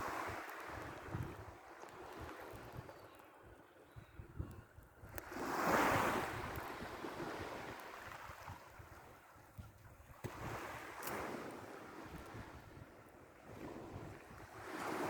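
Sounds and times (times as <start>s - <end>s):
waves breaking: 0.0s - 3.0s, 5.1s - 15.0s
wind rumble on microphone: 0.0s - 3.1s, 3.9s - 15.0s.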